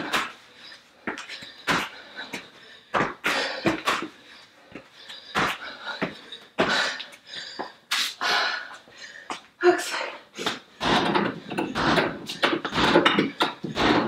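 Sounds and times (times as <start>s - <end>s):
woman breathing hard and gasping: 0.0s - 14.0s.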